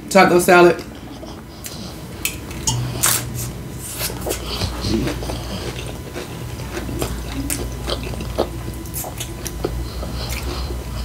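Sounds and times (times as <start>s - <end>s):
chewing and crunching chips: 0.8s - 11.0s.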